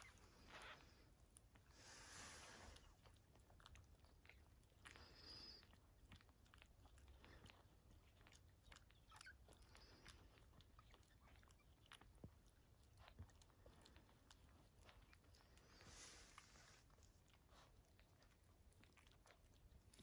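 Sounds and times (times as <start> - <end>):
puppies suckling wet clicks: 0.0 - 20.0.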